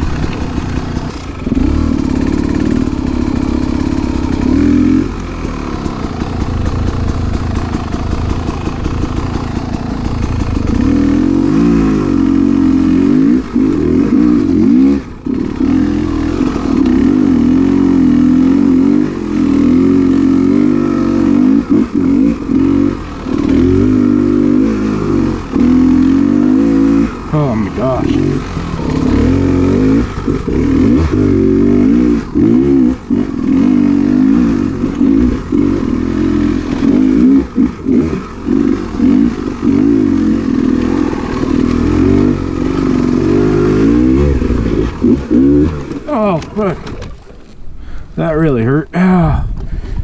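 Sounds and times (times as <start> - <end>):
dirt bike engine revving: 0.0 - 48.6.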